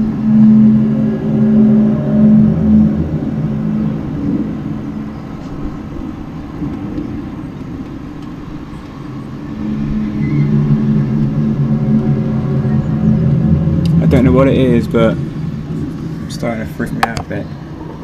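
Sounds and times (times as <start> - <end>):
low droning hum over rumble: 0.0 - 18.0.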